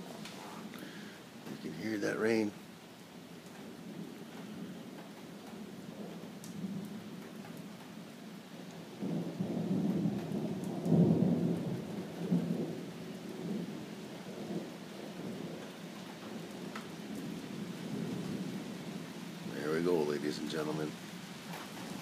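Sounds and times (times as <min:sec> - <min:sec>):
steady rain: 0:00.0 - 0:22.0
rolling thunder: 0:03.6 - 0:22.0.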